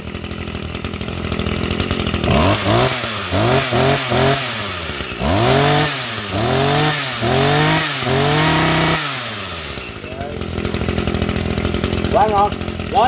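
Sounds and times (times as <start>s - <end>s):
brush cutter engine idling and revving: 0.0s - 13.0s.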